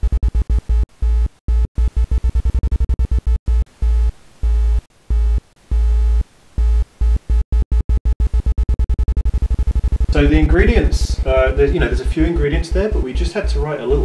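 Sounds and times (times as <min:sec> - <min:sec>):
buzzy low synth tone: 0:00.0 - 0:14.0.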